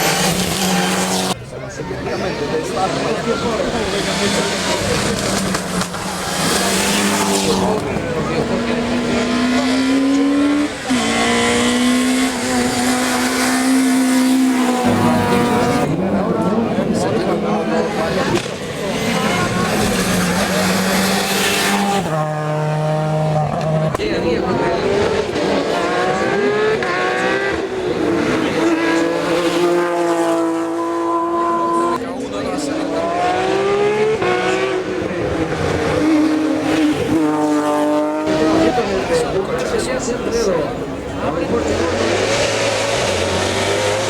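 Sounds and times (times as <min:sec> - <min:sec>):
race car engine at high revs: 0:00.0 - 0:01.4, 0:02.2 - 0:44.0.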